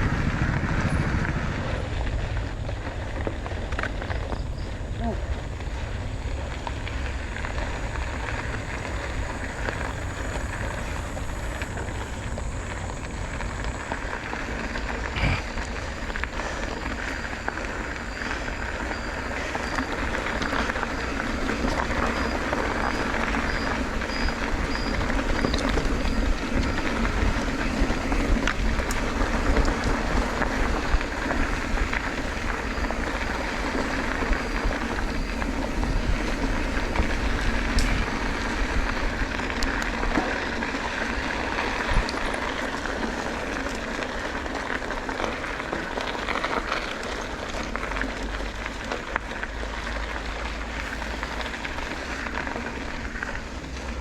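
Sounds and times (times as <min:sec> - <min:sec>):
wind buffeting microphone: 0:00.0 - 0:44.1
motorcycle engine drone: 0:00.0 - 0:54.0.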